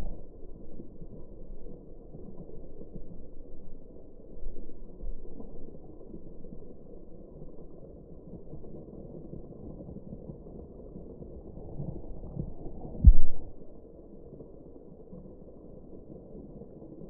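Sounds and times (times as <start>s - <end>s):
slowed rain muffled rumble: 0.0s - 17.0s.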